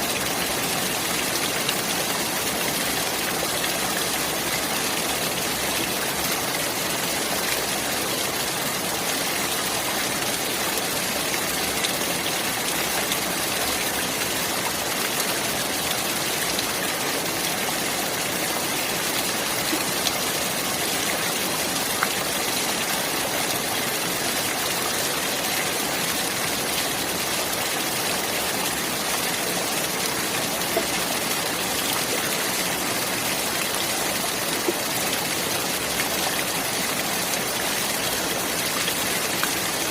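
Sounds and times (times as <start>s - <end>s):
water running steadily: 0.0s - 39.9s.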